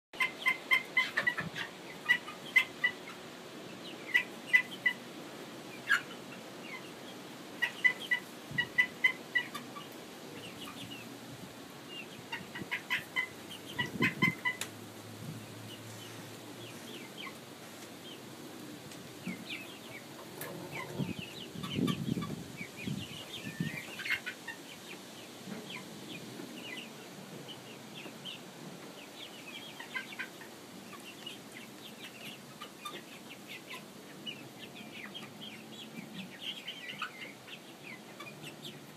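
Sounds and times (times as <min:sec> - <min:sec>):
young chickens peeping: 0:00.2 - 0:38.9.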